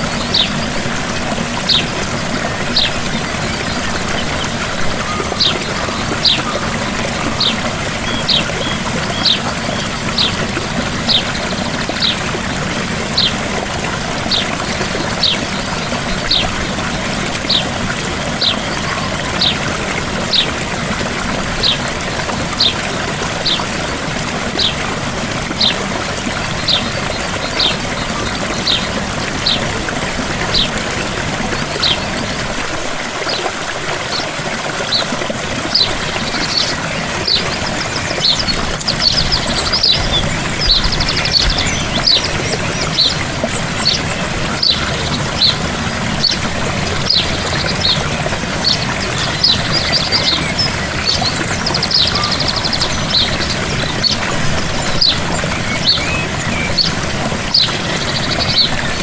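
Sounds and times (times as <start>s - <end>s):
waterfall splashing: 0.0s - 59.0s.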